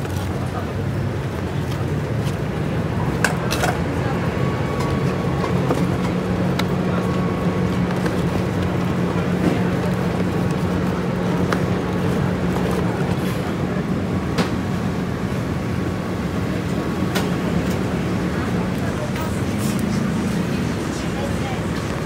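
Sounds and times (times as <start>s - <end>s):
noisy background: 0.0s - 22.0s.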